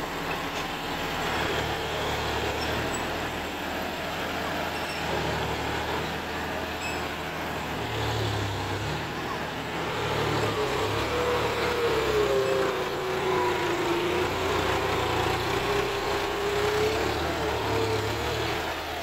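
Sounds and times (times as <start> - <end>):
tractor diesel engine labouring: 0.0 - 19.0.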